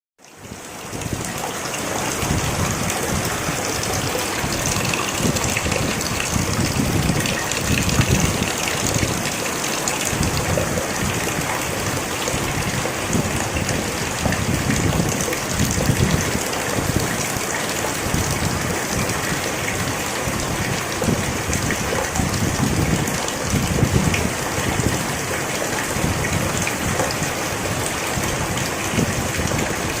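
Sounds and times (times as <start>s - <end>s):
heavy rain hiss: 0.3s - 30.0s.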